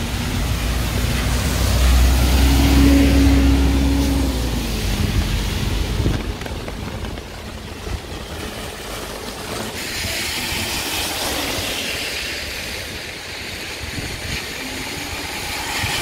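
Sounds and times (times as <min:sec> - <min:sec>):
heavy rain hiss: 0:00.0 - 0:16.0
vehicle engine hum: 0:00.0 - 0:16.0.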